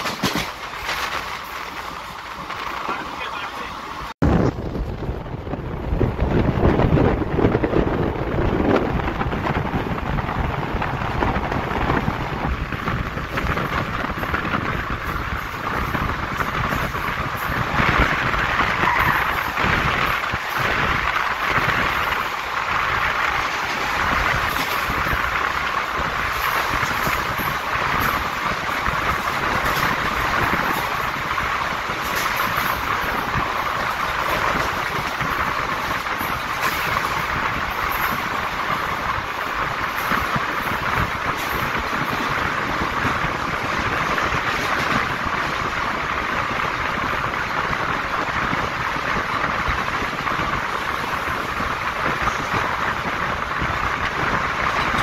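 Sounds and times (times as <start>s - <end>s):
rushing air: 0.0s - 55.0s
train wheels rumbling on rails: 0.0s - 55.0s.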